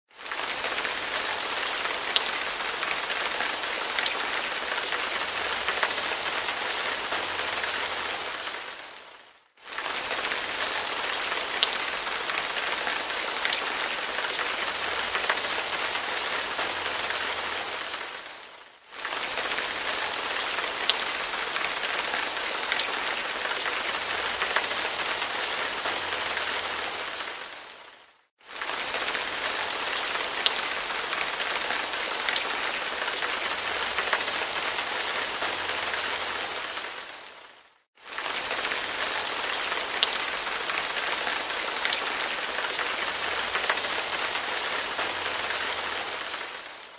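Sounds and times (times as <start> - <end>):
steady rain hiss: 0.2 - 46.9.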